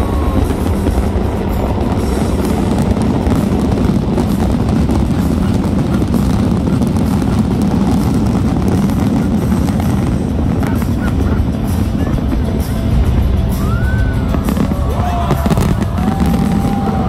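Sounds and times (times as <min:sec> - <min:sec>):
loud fireworks barrage crackling: 0:00.0 - 0:17.0.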